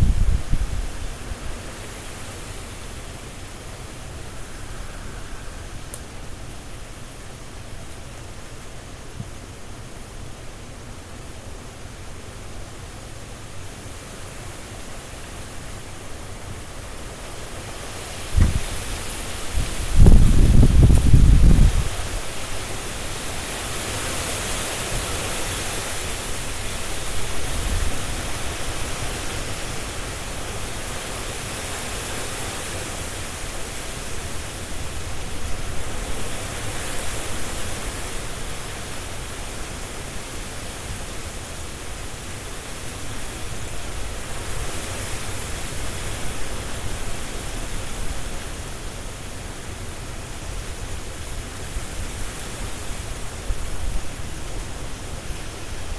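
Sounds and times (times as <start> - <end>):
leaves rustling: 0.0 - 55.9
wind rushing through trees: 0.0 - 55.9.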